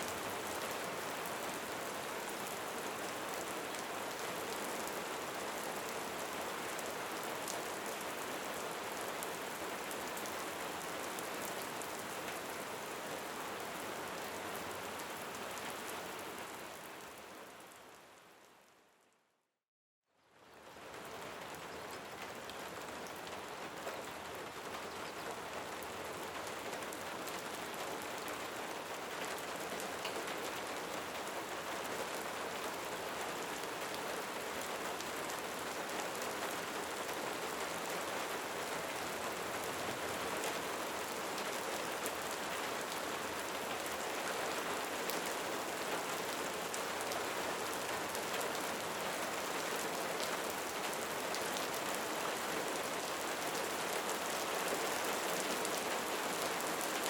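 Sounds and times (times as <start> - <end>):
rain falling: 0.0 - 18.7, 20.4 - 57.0.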